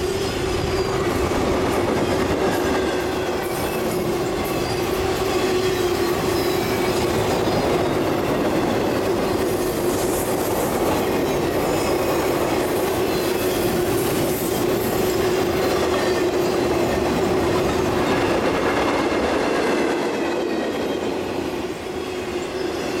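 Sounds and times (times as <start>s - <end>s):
freight train wheels clickety-clack: 0.0s - 23.0s.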